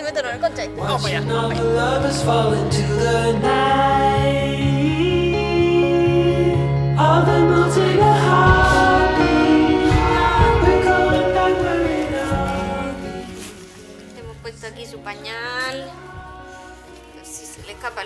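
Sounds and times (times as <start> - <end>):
song with singing: 0.7 - 14.2, 15.2 - 18.0.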